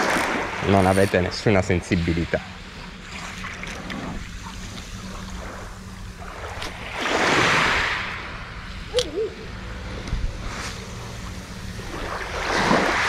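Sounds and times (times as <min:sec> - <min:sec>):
small waves washing on shore: 0:00.0 - 0:13.0
wind rumble on microphone: 0:00.0 - 0:13.0.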